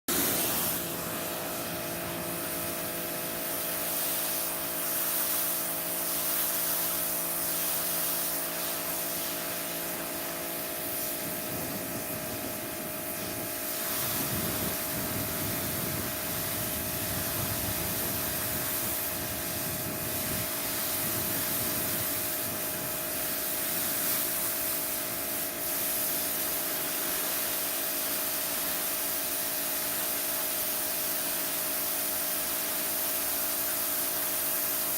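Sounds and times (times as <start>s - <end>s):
pressure washer motor hum: 0.1s - 34.9s
water jet hissing on concrete: 0.1s - 34.9s.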